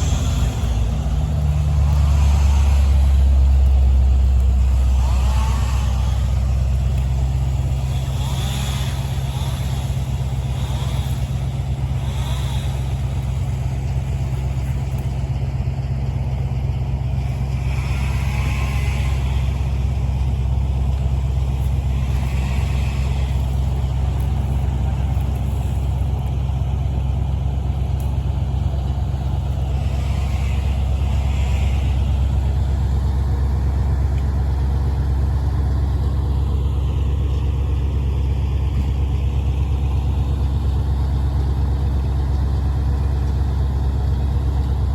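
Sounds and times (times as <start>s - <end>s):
large engine rumbling: 0.0s - 44.9s.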